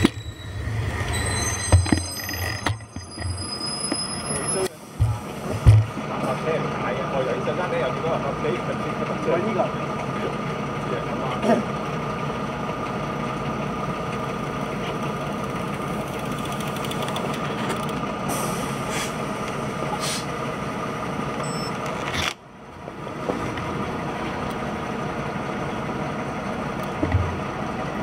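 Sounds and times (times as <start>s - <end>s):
diesel lorry engine idling: 3.4s - 28.0s.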